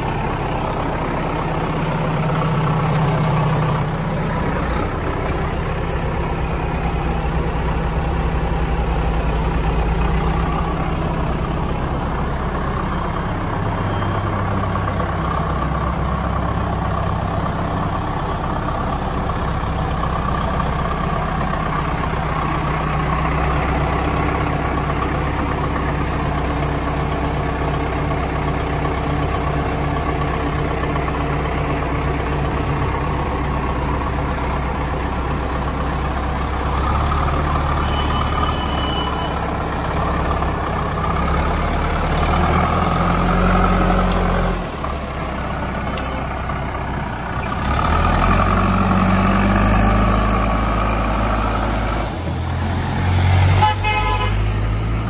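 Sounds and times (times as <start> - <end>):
heavy diesel engines revving: 0.0 - 55.0.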